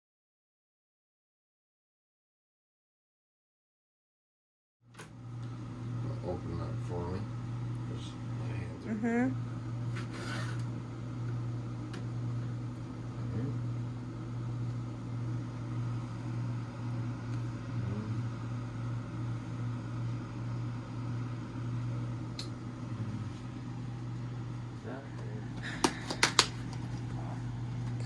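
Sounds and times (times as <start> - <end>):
low mechanical hum: 4.9 - 28.0.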